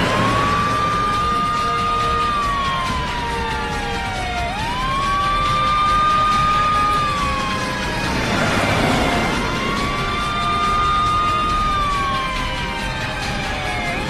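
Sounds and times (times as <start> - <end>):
low vehicle noise: 0.0 - 14.0
police siren wailing: 0.0 - 14.0.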